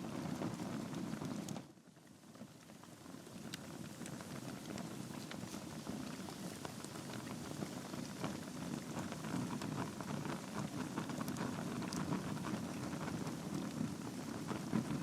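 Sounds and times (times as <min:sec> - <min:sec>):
burning logs crackling: 0:00.0 - 0:15.0
low rush of flame: 0:00.0 - 0:15.0.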